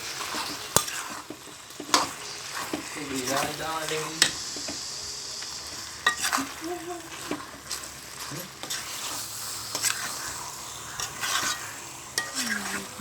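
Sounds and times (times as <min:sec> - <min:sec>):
chicken sizzling in a wok: 0:00.0 - 0:13.0
spoon scraping a pan: 0:00.0 - 0:13.0.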